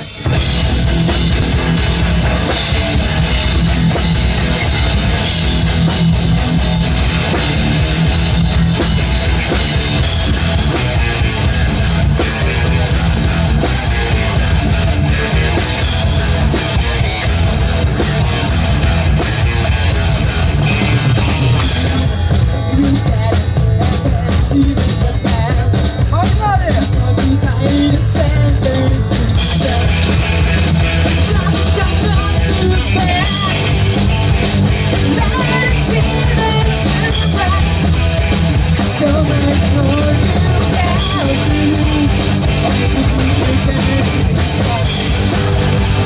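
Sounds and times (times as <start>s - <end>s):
bass guitar: 0.0s - 46.0s
drum kit: 0.0s - 46.0s
electric guitars: 0.0s - 46.0s.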